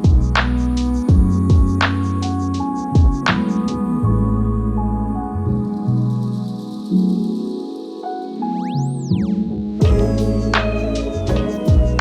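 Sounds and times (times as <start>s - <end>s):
calm ambient synth music: 0.0s - 12.0s.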